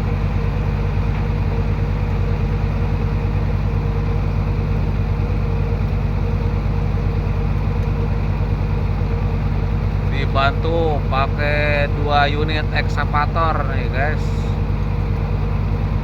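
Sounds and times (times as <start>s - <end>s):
diesel engine running steadily: 0.0s - 16.0s.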